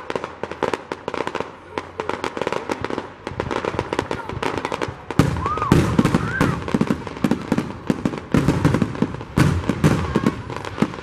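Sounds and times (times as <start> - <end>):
fireworks bangs and crackles: 0.0 - 11.0
fireworks whistles: 0.0 - 11.0
heavy fireworks booms: 0.0 - 11.0.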